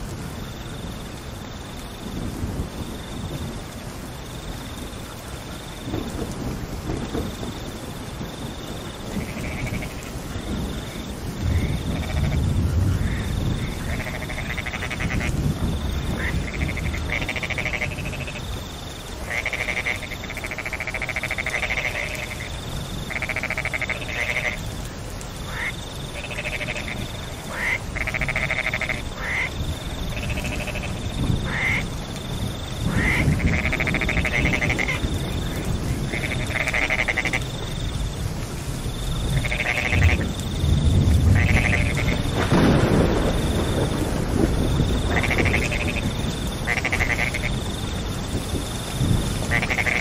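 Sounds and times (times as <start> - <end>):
rain: 0.0 - 50.0
frogs calling in chorus: 8.2 - 38.1, 38.9 - 50.0.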